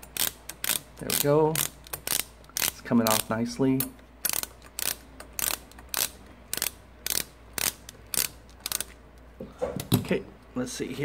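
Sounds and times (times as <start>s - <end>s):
socket ratchet clicking: 0.0s - 9.3s.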